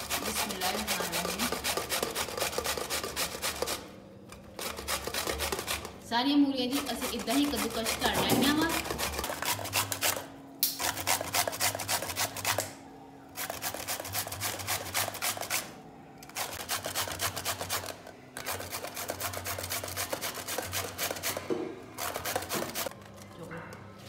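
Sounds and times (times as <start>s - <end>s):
radish grating on metal grater: 0.0s - 3.9s, 4.5s - 6.0s, 6.6s - 12.7s, 13.4s - 21.4s, 22.0s - 22.9s.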